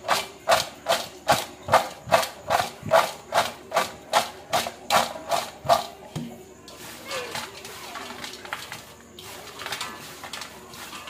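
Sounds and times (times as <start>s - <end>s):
fries clattering in a steel bowl: 0.0s - 11.0s.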